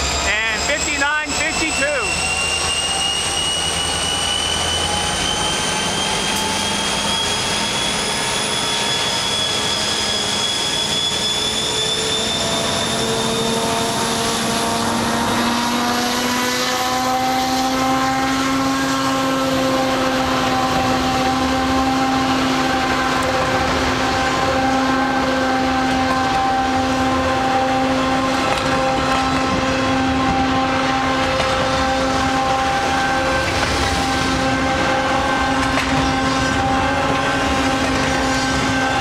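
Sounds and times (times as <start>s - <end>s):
freight train rolling past: 0.0s - 39.0s.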